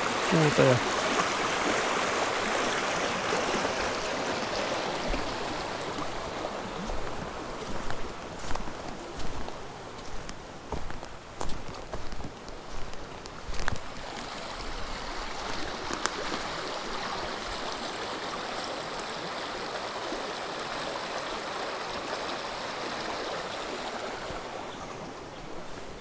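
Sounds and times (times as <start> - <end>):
river rushing over stones: 0.0 - 26.0.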